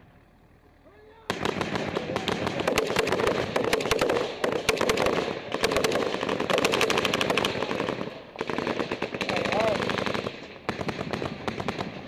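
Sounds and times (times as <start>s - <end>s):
machine gun automatic fire: 1.3s - 12.0s.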